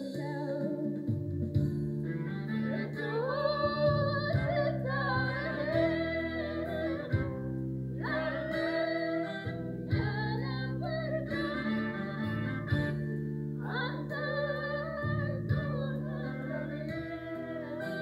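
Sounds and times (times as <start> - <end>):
woman singing into a microphone: 0.0 - 1.2, 2.8 - 7.3, 8.0 - 12.9, 13.6 - 18.0
electronic keyboard chords: 0.0 - 18.0.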